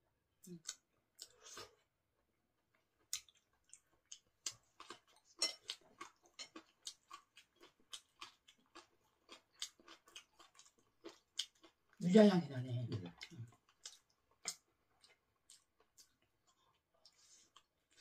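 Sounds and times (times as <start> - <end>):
chewing bread: 0.5 - 12.0, 12.8 - 18.0.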